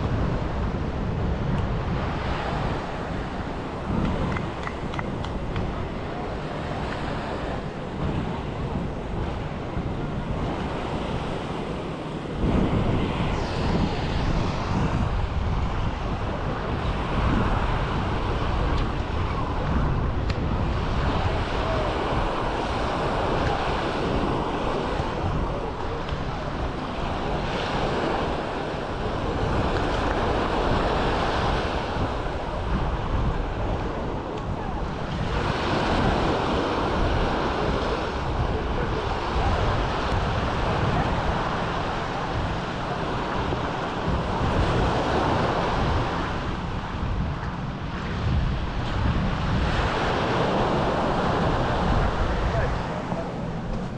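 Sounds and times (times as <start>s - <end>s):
surf washing on shore: 0.0s - 53.9s
wind buffeting microphone: 0.0s - 53.9s.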